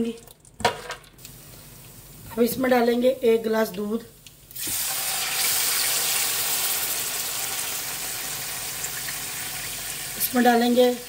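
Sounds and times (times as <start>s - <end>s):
milk sizzling in hot ghee: 1.2s - 11.0s.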